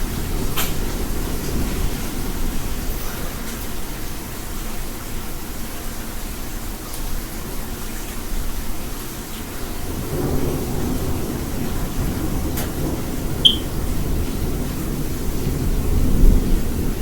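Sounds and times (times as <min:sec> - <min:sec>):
heavy rain pouring: 0:00.0 - 0:17.0
rain and hail hitting house: 0:00.0 - 0:17.0.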